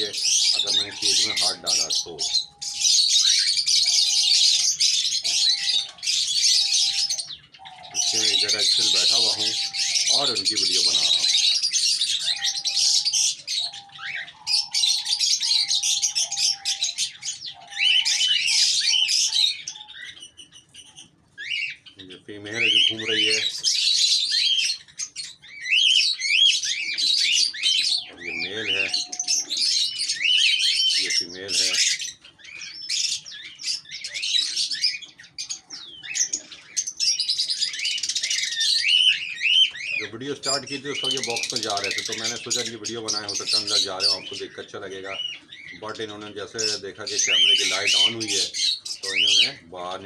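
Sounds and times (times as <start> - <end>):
birds chirping and calling: 0.0 - 50.0.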